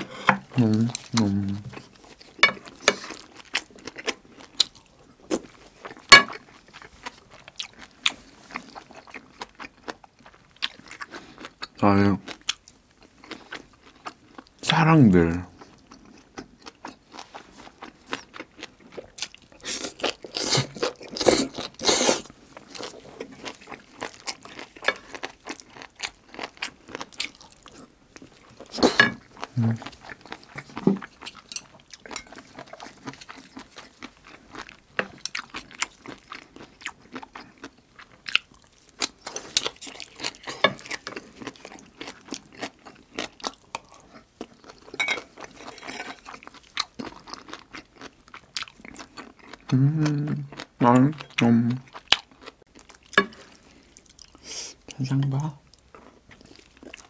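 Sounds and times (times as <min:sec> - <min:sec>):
person chewing crunchy food: 0:00.0 - 0:14.8, 0:15.5 - 0:57.0.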